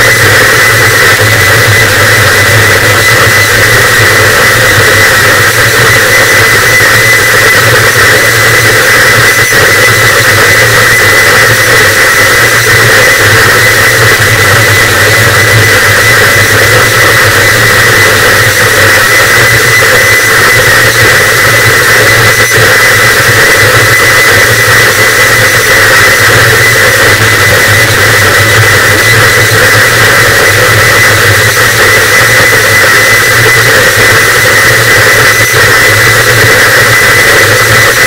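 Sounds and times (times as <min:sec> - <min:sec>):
distorted static noise: 0:00.0 - 0:38.0.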